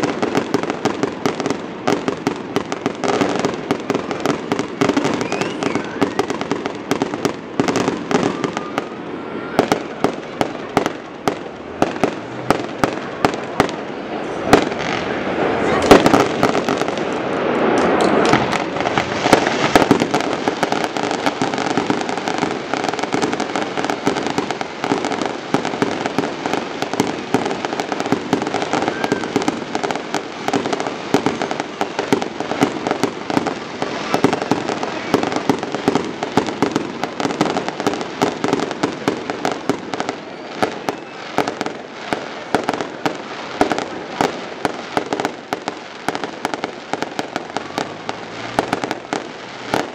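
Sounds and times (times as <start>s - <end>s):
fireworks crackling and popping: 0.0s - 49.9s.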